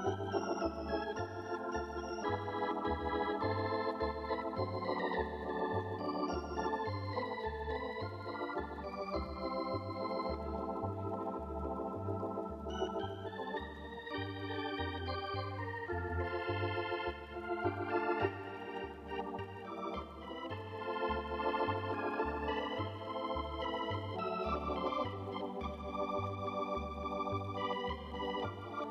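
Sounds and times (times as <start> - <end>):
organ chords: 0.0 - 28.9.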